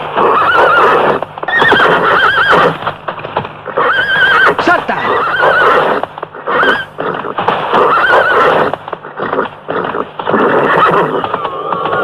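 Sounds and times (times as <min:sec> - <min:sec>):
horse hoofbeats galloping: 0:00.0 - 0:12.0
horse whinnying: 0:00.1 - 0:02.9, 0:03.7 - 0:12.0.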